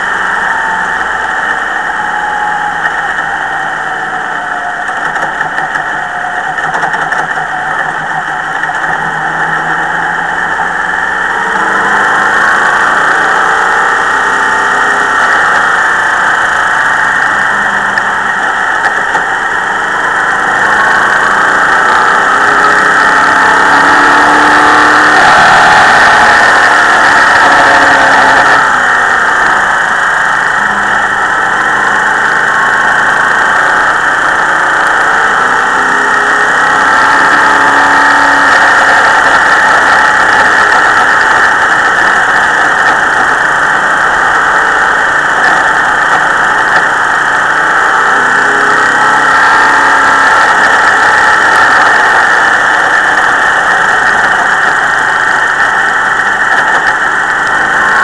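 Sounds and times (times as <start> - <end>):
race car engine roaring: 0.0 - 58.0.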